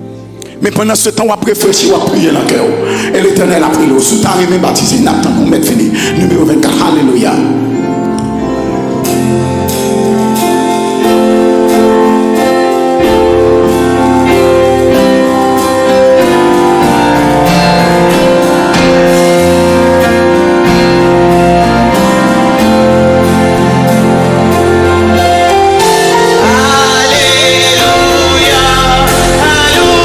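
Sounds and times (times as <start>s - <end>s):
praise band playing: 0.0s - 30.0s.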